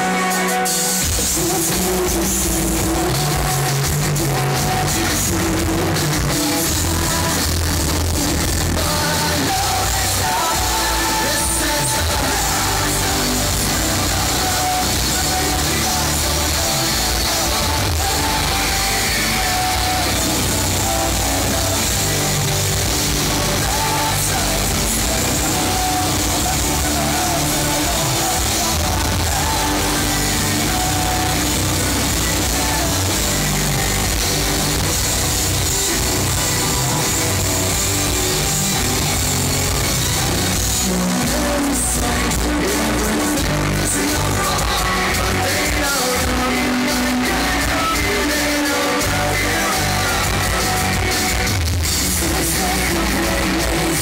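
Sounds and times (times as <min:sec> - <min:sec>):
bass guitar: 0:00.0 - 0:54.0
distorted electric guitars: 0:00.0 - 0:54.0
drums: 0:00.0 - 0:54.0
person singing: 0:00.0 - 0:54.0.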